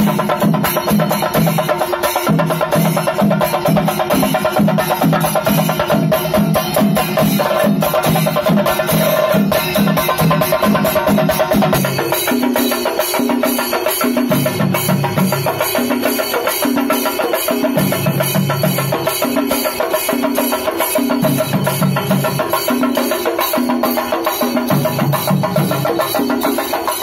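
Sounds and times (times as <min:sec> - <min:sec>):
drum ensemble playing: 0:00.0 - 0:27.0.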